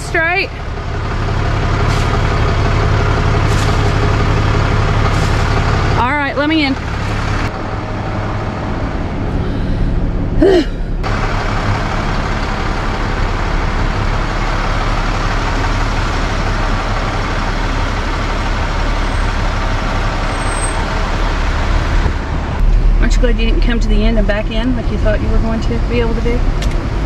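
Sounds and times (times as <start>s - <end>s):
tow truck engine running: 0.0s - 27.0s
tyres rolling on road: 0.0s - 27.0s.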